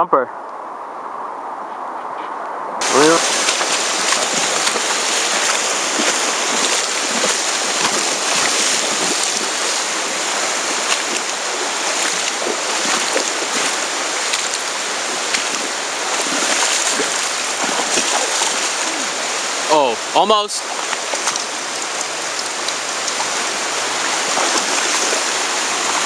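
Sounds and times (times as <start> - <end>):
river water rushing over rapids: 2.8 - 26.0
small water splashes: 2.8 - 26.0.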